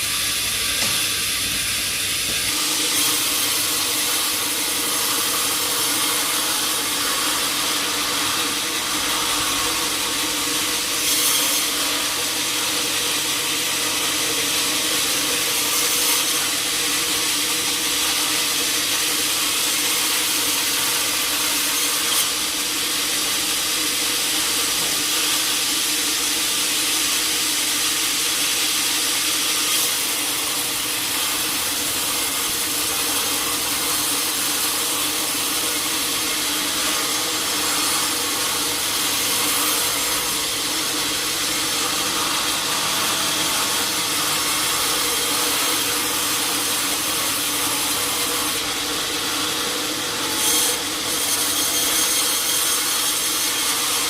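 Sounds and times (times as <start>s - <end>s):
saw cutting through log: 0.0s - 54.0s.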